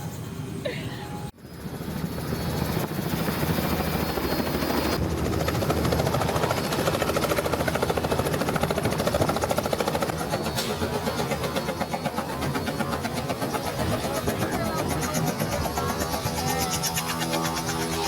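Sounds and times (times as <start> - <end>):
helicopter rotor beating: 1.2 - 18.0.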